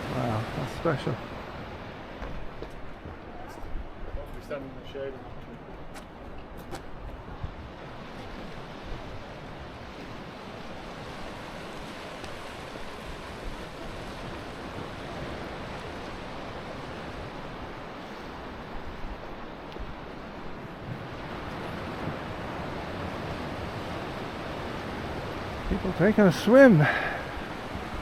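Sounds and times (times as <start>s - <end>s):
surf washing: 0.0s - 28.0s
wind rumbling on microphone: 1.2s - 25.8s.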